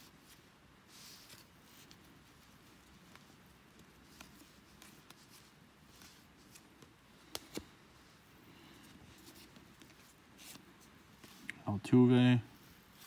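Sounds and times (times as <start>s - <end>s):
cards being handled: 0.0s - 11.6s.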